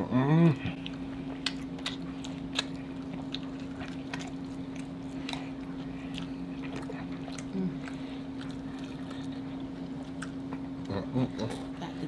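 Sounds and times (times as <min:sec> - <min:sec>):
steady low hum: 0:00.0 - 0:12.0
wet chewing clicks and smacks: 0:00.5 - 0:11.5.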